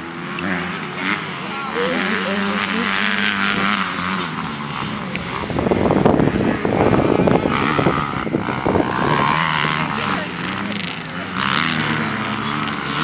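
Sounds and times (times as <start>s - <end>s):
dirt bike engines revving: 0.0s - 13.0s
wind on microphone: 1.8s - 13.0s.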